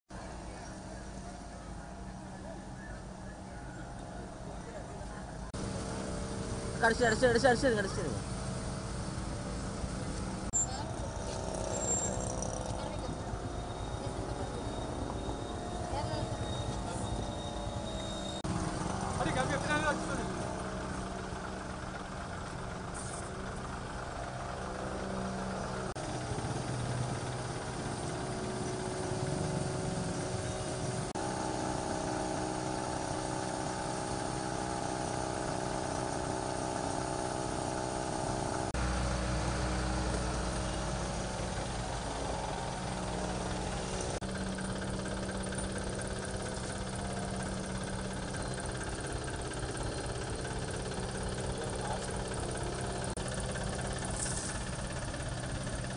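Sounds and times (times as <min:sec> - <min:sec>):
engine idling: 0:00.1 - 0:55.9.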